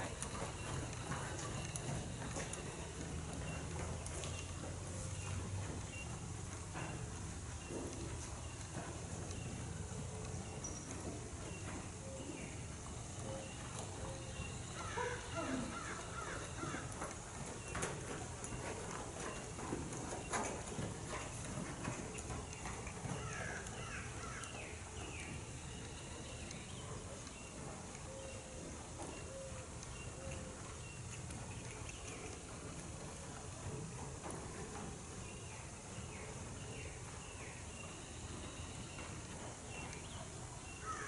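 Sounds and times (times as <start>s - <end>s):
horse hoofbeats on sand: 0.0s - 41.0s.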